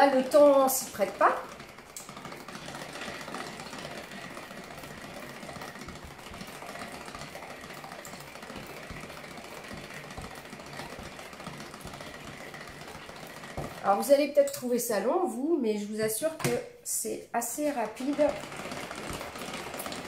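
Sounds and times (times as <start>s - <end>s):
hand-cranked whipper whirring: 0.0s - 14.7s, 17.8s - 20.0s.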